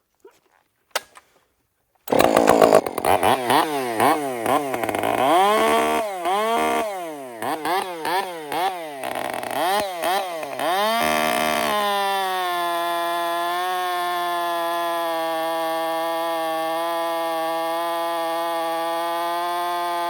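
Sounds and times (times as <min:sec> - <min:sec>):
chainsaw cutting wood: 0:02.1 - 0:20.0.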